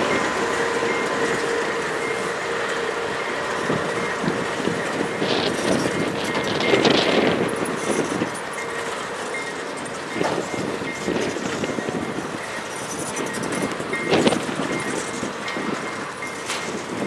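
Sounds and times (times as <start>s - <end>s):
train wheels rumbling on rails: 0.0s - 17.0s
wheel trucks clattering: 0.0s - 17.0s.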